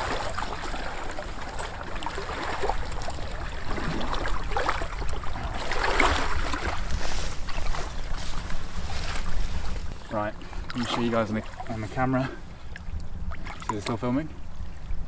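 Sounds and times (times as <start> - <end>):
water splashing around legs: 0.0 - 12.2.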